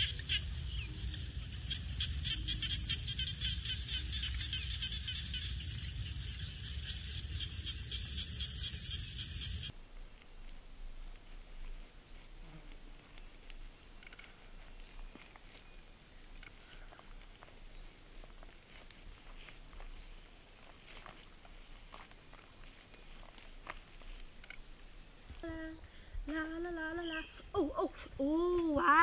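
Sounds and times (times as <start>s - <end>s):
high insect drone: 0.6s - 29.0s.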